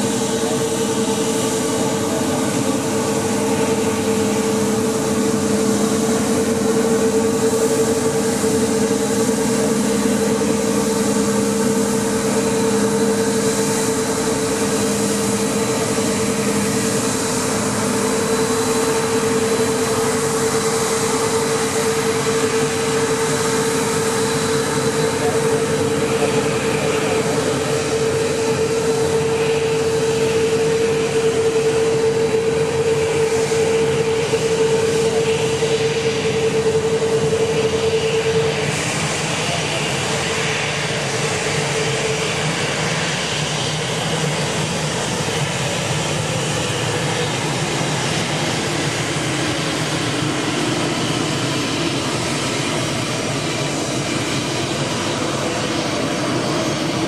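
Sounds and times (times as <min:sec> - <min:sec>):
jet turbines running: 0:00.0 - 0:57.0.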